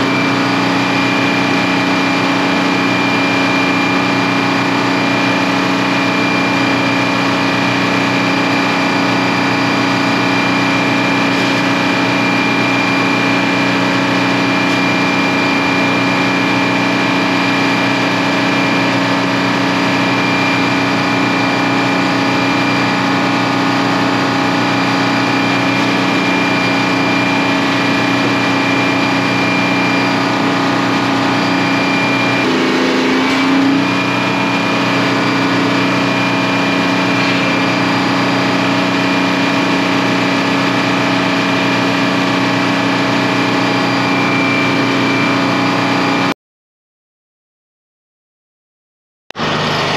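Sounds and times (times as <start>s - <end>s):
high whine: 0.0s - 46.3s, 49.4s - 49.9s
diesel engine running: 0.0s - 46.4s, 49.4s - 49.9s.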